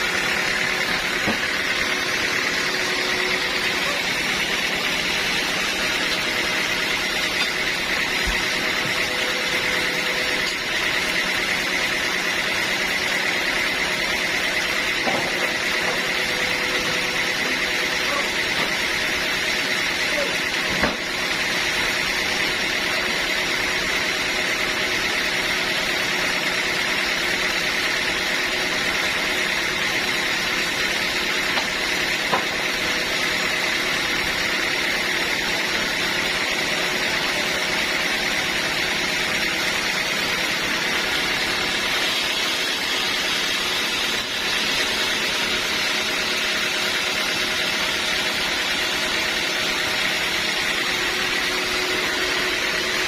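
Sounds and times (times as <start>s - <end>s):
sawmill saw running: 0.0s - 53.0s.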